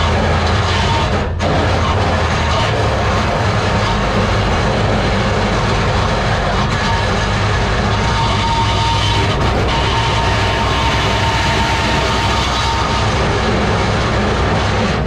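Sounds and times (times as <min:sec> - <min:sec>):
race car engine running steadily: 0:00.0 - 0:15.0.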